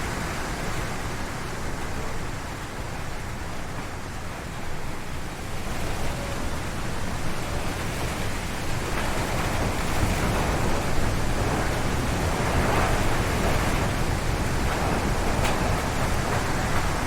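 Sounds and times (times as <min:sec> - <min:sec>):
strong wind gusting through trees: 0:00.0 - 0:17.0.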